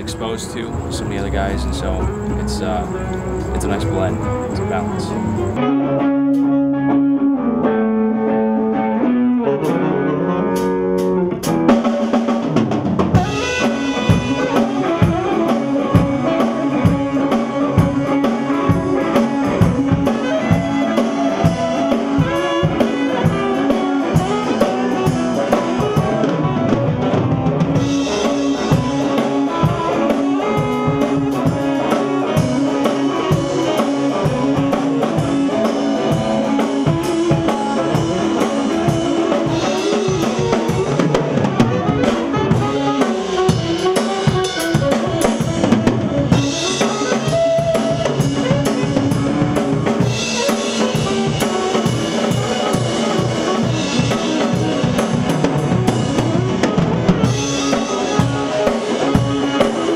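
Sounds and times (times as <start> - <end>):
drum kit beat: 0.0 - 5.6, 10.6 - 59.9
guitar: 0.0 - 59.9
soul and funk band music: 0.0 - 59.9.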